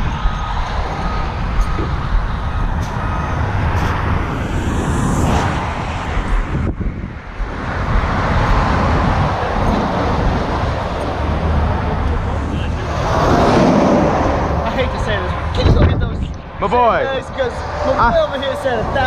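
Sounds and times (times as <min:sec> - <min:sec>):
highway traffic rumble: 0:00.0 - 0:19.0
vehicle passing by: 0:00.0 - 0:19.0.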